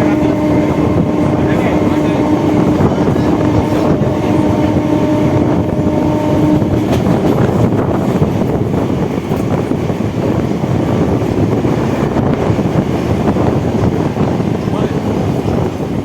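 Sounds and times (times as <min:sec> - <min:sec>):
train wheel and wind noise: 0:00.0 - 0:16.0.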